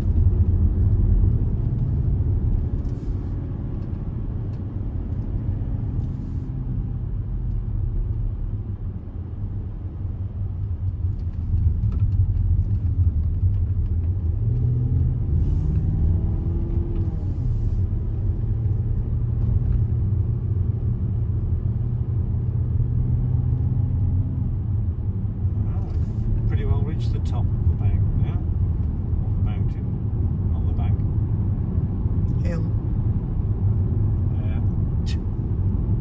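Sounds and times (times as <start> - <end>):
road and engine rumble in car: 0.0 - 36.0.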